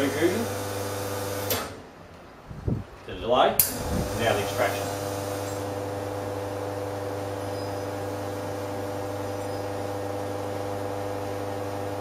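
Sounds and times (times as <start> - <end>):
espresso machine pump humming: 0.0 - 1.5, 3.8 - 12.0.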